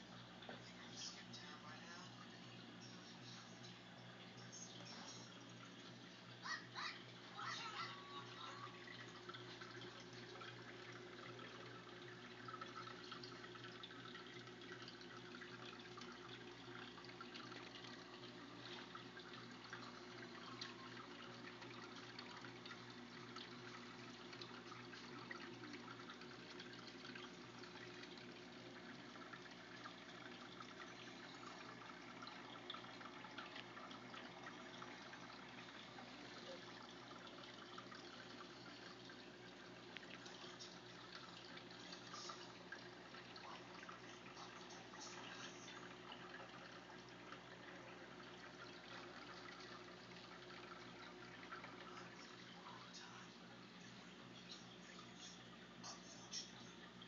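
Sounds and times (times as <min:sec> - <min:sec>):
aquarium water trickling: 0:00.0 - 0:57.0
low steady hum: 0:00.0 - 0:57.0.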